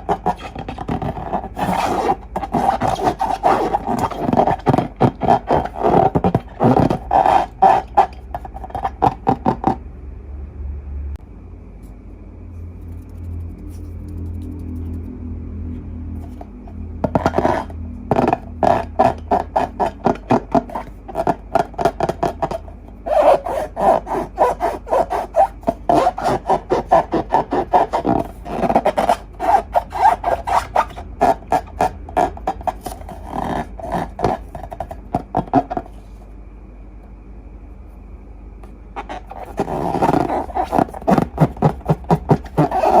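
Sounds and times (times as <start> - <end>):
hands rubbing and scraping slime: 0.0 - 9.8, 12.8 - 15.1, 17.1 - 36.2, 39.0 - 43.0.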